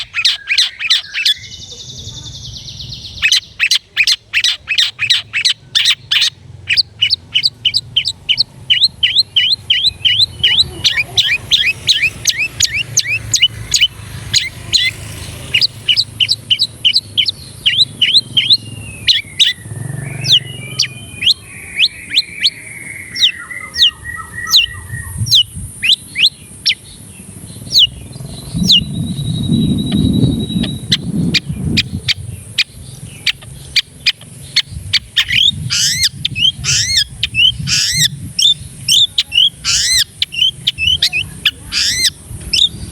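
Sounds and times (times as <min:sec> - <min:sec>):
shrike singing: 0:00.0 - 0:42.9
low rumble: 0:05.2 - 0:42.9.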